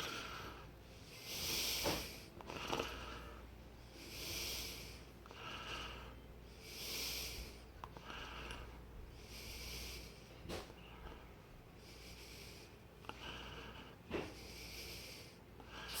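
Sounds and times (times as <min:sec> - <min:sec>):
close breathing: 0:00.0 - 0:16.0
electric box fan hum: 0:00.0 - 0:16.0.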